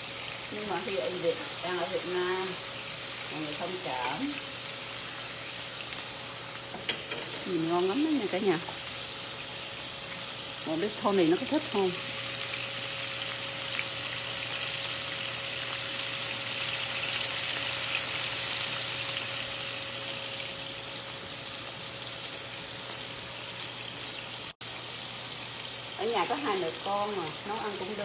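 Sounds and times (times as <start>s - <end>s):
chicken sizzling in a skillet: 0.0s - 28.0s.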